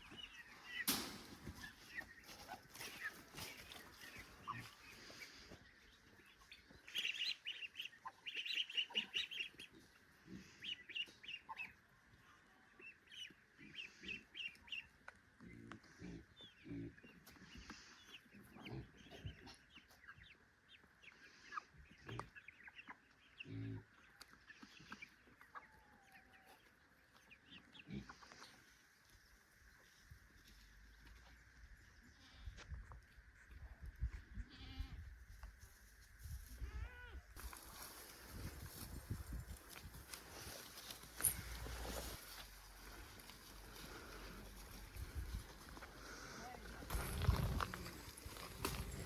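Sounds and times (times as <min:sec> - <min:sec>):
poultry peeping: 0:00.0 - 0:49.0.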